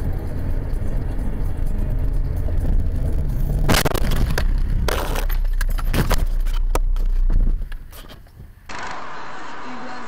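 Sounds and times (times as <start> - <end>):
road and engine rumble: 0.0 - 8.7.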